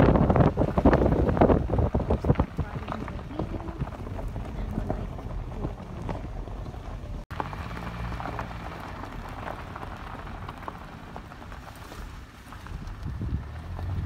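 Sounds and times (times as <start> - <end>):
low rumble: 0.0 - 14.0
tyres crackling on gravel: 0.0 - 14.0.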